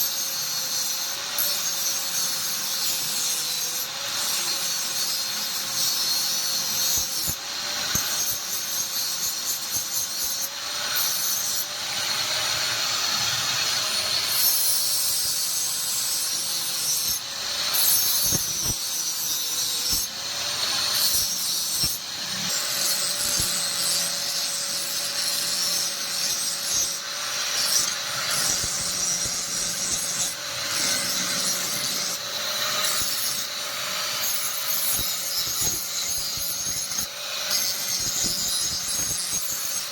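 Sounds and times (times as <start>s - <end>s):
grinding hiss on steel: 0.0s - 39.9s
power tool motor whine: 0.0s - 39.9s.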